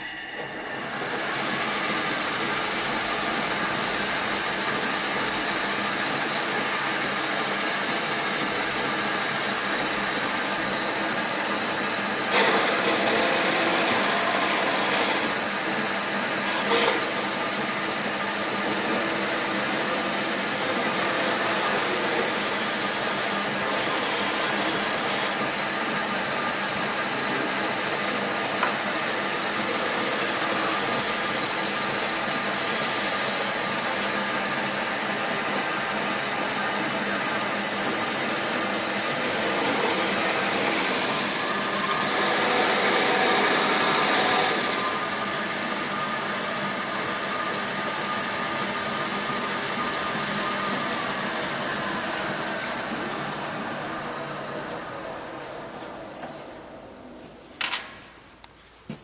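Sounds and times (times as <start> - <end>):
shop machine running: 0.0 - 58.6.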